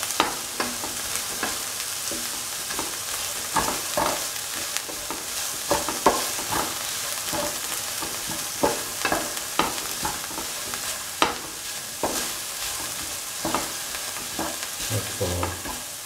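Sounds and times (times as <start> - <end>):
spatula scraping a pan: 0.0 - 15.9
okra sizzling in a pan: 0.0 - 16.0.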